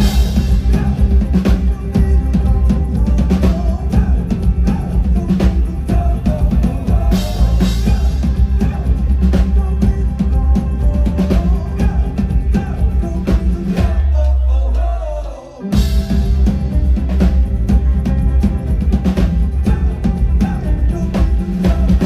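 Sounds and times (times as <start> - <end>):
pop-rock band playing: 0.0 - 22.0.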